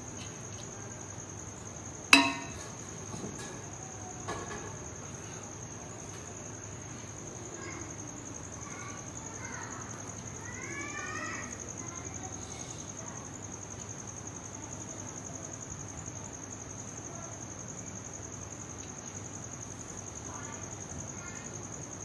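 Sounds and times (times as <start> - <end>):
cricket trilling: 0.0 - 22.0.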